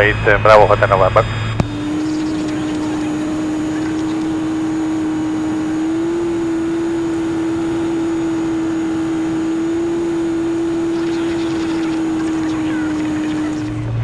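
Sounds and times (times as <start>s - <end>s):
airplane engine and propeller drone: 0.0s - 14.0s.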